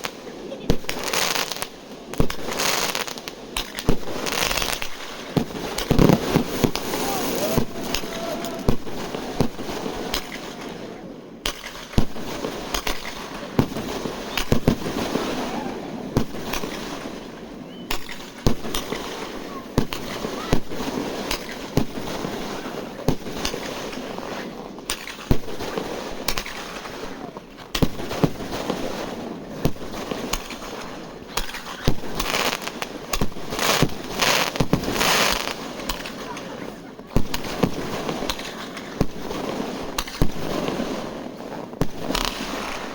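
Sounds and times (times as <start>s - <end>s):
fireworks bangs: 0.0s - 42.9s
fireworks crackling: 0.0s - 42.9s.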